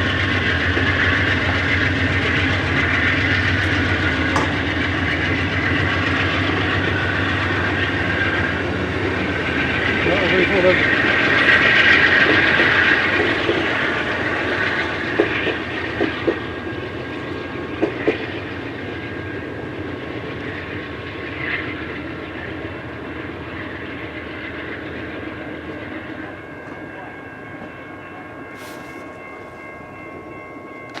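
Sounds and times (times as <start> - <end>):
train rolling on rails: 0.0 - 31.0.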